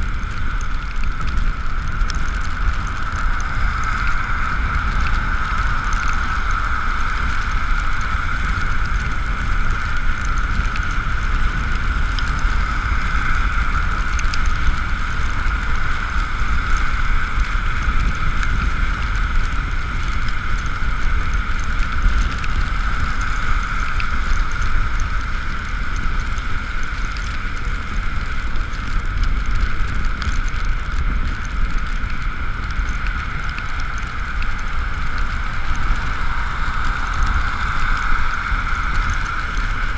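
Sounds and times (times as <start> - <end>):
electric vehicle drive whine: 0.0 - 39.9
low wind: 0.0 - 39.9
road rumble: 0.0 - 39.9.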